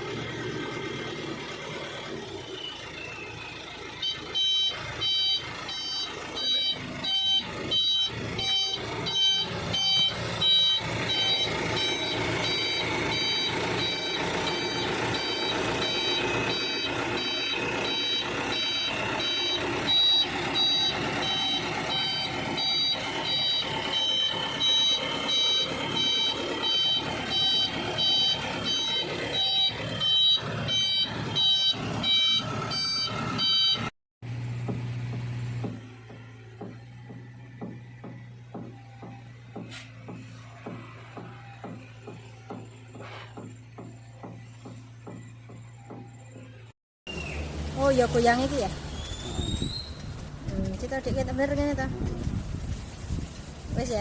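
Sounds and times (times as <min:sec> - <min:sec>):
truck engine running: 0:00.0 - 0:54.0
truck reversing alarm beeping: 0:00.0 - 0:54.0.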